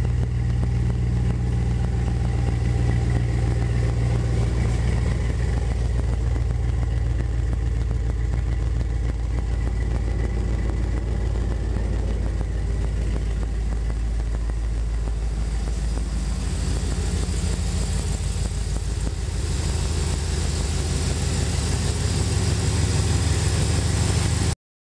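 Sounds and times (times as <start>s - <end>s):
truck engine idling: 0.0s - 24.6s.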